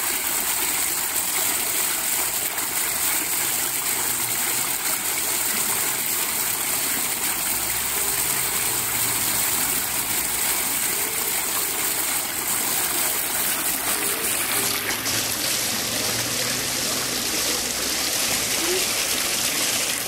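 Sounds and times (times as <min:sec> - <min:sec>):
small jets splashing: 0:00.0 - 0:20.0
water falling down wall: 0:00.0 - 0:20.0.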